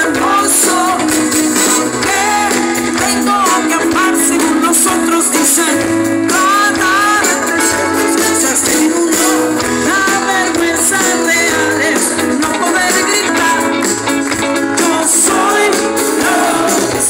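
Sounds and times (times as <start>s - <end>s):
drums: 0.0s - 17.0s
electric guitar: 0.0s - 17.0s
keyboards: 0.0s - 17.0s.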